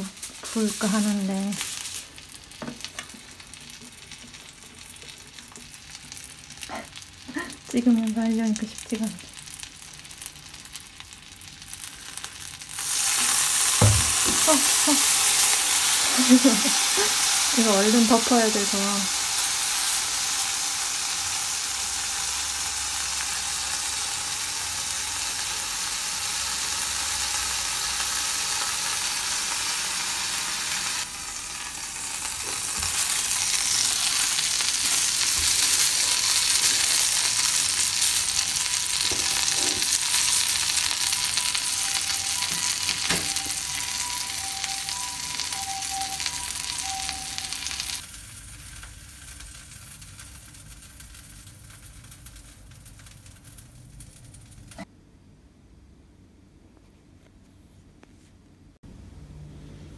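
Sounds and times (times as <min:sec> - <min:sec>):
food sizzling in a frying pan: 0:00.0 - 0:54.9.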